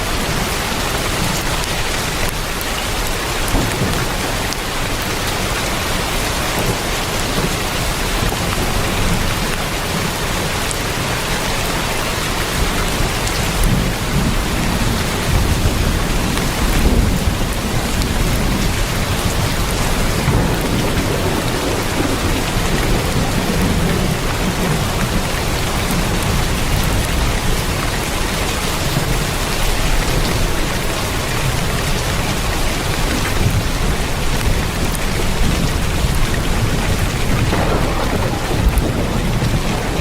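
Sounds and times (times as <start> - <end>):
heavy rain on a tin roof: 0.0 - 40.0.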